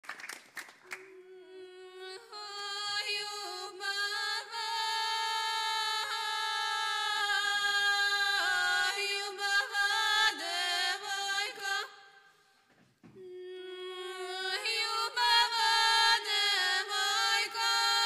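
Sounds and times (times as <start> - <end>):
women singing a cappella: 1.0 - 18.0.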